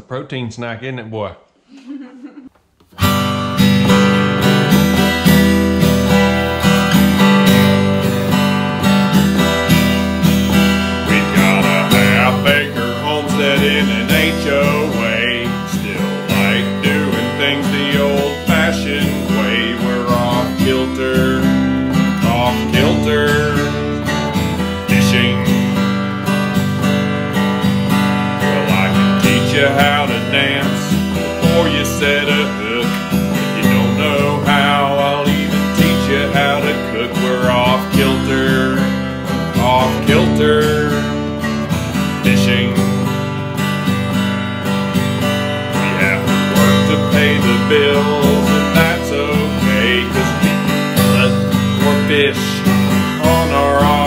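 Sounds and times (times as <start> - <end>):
strummed acoustic guitar: 2.9 - 54.0.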